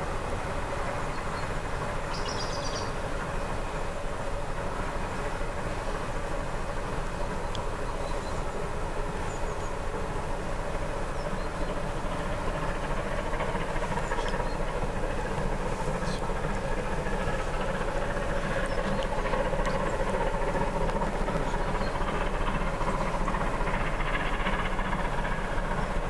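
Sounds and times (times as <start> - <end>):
distant steam locomotive exhaust roar: 0.0 - 26.0.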